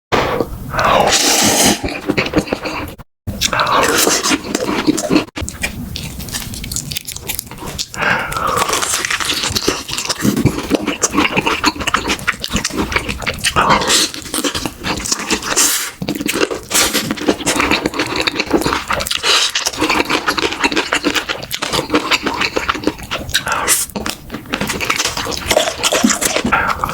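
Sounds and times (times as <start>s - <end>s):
chewing and mouth noises: 1.0s - 26.9s.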